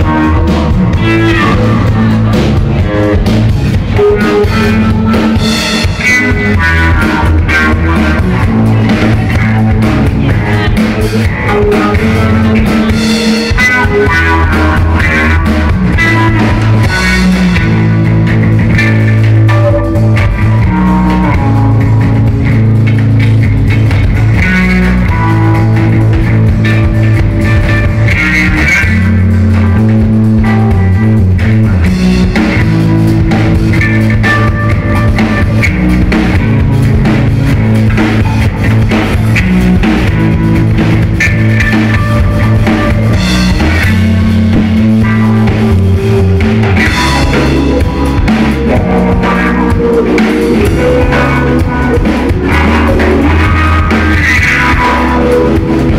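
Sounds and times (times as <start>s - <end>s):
drum kit: 0.0s - 55.9s
electric guitars: 0.0s - 55.9s.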